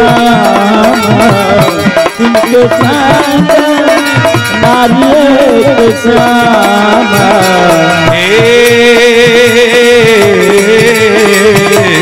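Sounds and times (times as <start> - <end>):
dholak drum rhythm: 0.0 - 12.0
wavering melody line: 0.0 - 12.0.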